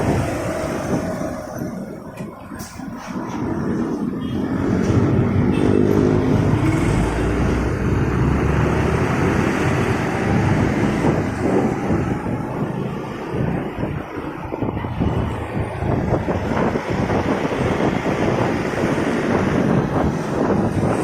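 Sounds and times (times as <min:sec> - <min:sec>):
traffic rush: 0:00.0 - 0:21.0.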